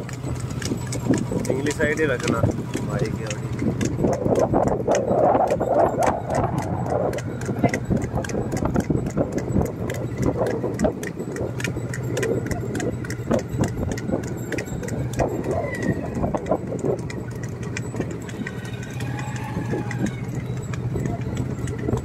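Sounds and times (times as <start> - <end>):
cart wheels and frame knocking: 0.0 - 22.0
hooves clicking on pavement: 0.0 - 22.0
low hum: 0.0 - 22.0.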